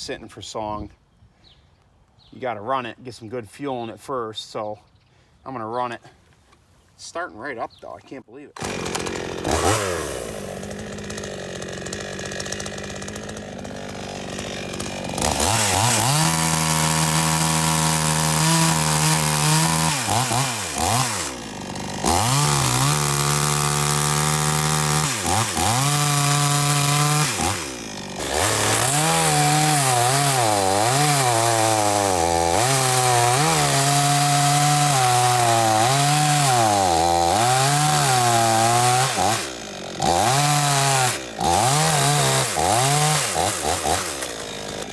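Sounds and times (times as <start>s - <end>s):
chainsaw engine idling and revving: 8.5s - 44.9s.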